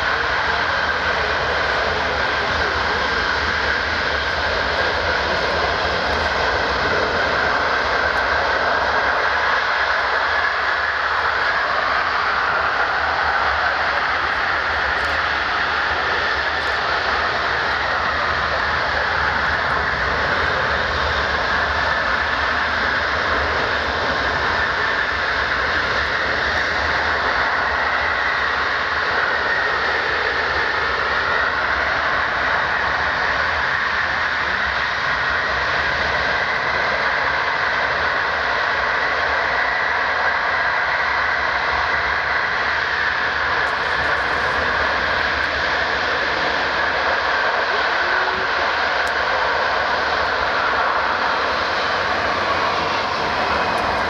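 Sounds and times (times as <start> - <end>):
high engine whine: 0.0 - 54.0
jet engines running: 0.0 - 54.0.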